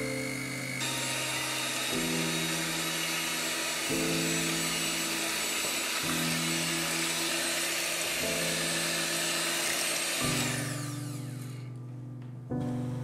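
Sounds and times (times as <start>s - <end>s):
electric hand mixer whirring: 0.0s - 11.8s
background music: 0.0s - 13.0s.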